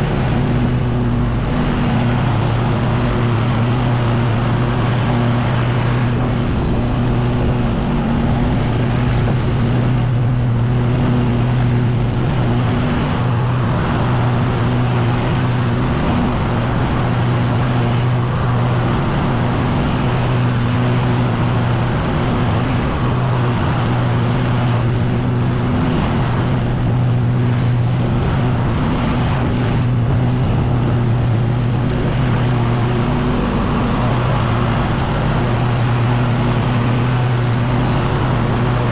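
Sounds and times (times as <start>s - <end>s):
air rushing from blower: 0.0s - 38.9s
leaf blower engine running: 0.0s - 38.9s.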